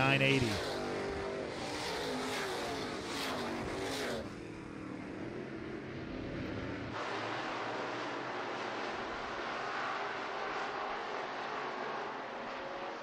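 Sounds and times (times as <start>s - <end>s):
distant race car engines: 0.0s - 13.0s
race cars passing at speed: 0.0s - 13.0s.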